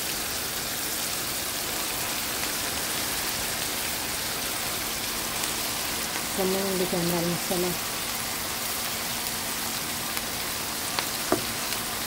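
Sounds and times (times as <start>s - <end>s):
kale sizzling in hot oil: 0.0s - 12.0s.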